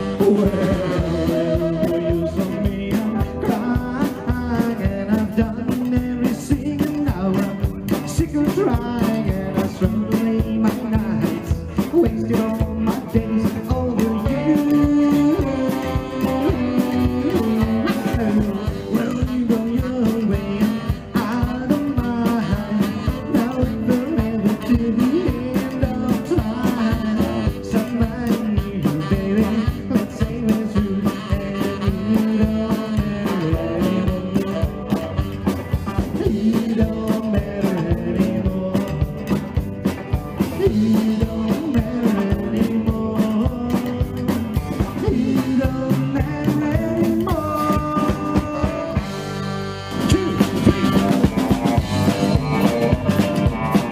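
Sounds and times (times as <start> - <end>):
drums: 0.0 - 53.9
electric guitars: 0.0 - 53.9
slapped upright bass: 0.0 - 53.9.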